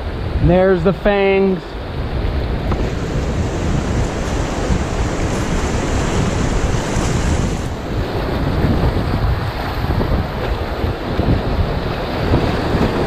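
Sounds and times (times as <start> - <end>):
whitewater rushing: 0.0 - 13.0
wind buffeting microphone: 0.0 - 13.0.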